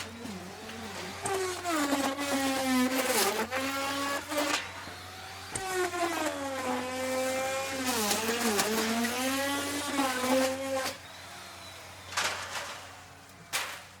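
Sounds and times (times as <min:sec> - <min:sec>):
wood router whining: 0:00.0 - 0:13.5.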